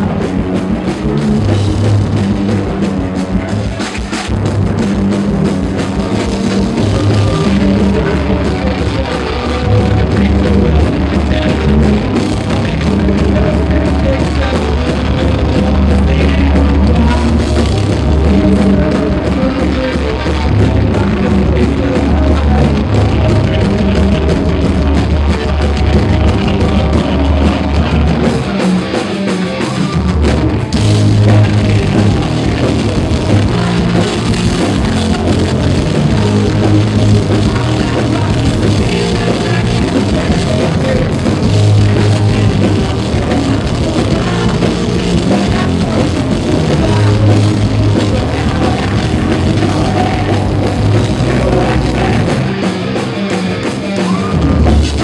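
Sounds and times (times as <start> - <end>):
live metal band playing: 0.0 - 55.0
person singing into a microphone: 4.9 - 55.0.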